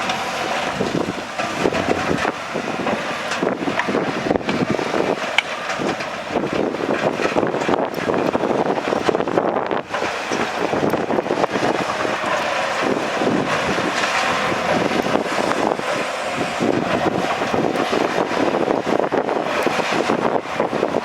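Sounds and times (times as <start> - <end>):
heavy earthmoving machinery rumbling: 0.0 - 21.0
wind buffeting microphone: 0.0 - 21.0.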